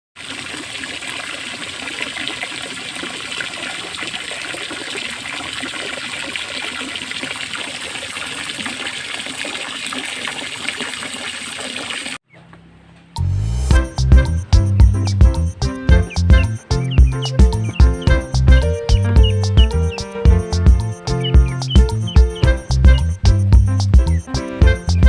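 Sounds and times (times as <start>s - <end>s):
running splashing water: 0.2s - 12.2s, 13.9s - 25.0s.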